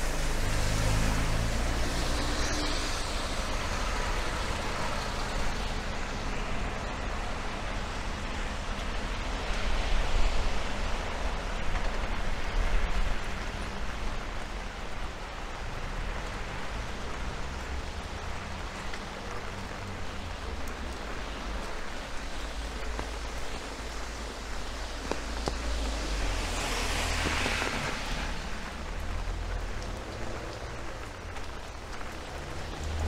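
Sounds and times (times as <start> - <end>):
steady rain on a street: 0.0 - 33.0.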